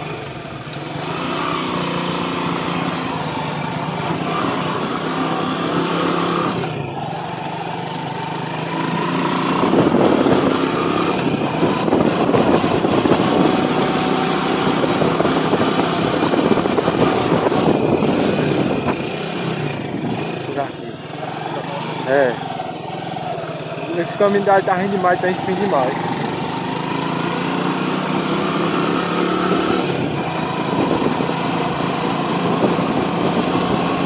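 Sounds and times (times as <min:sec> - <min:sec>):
motorcycle engine riding: 0:00.0 - 0:34.0.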